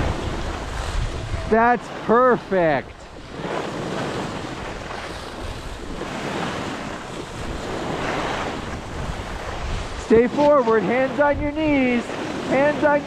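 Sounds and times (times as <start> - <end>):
wind on microphone: 0.0 - 2.1, 2.8 - 13.0.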